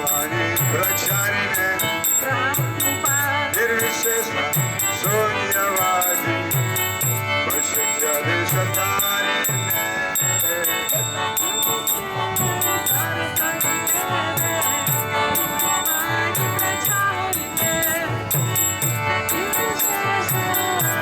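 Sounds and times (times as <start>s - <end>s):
held instrumental tones: 0.0s - 21.0s
wavering melody line: 0.0s - 21.0s.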